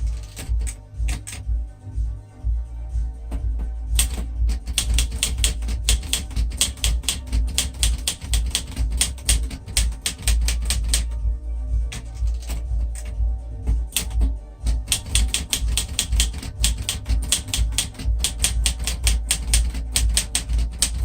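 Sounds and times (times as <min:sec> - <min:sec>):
manual typewriter typing: 0:00.0 - 0:01.4, 0:04.0 - 0:11.2, 0:11.9 - 0:13.1, 0:13.9 - 0:21.0.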